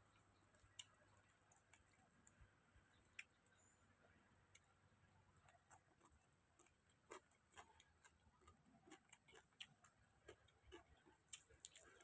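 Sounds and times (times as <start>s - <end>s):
person eating with crunches: 0.1s - 3.6s, 4.4s - 12.0s.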